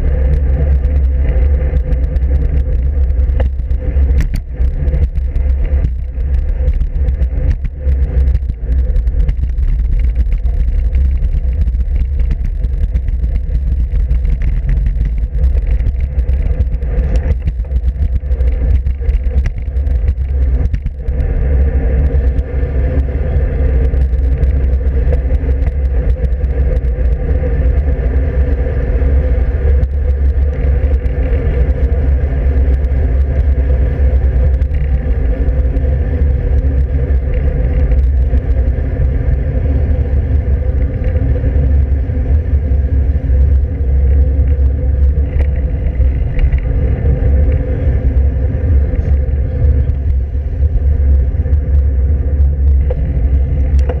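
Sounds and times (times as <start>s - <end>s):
road and tyre noise: 0.0s - 54.0s
wind rumble on microphone: 0.0s - 54.0s.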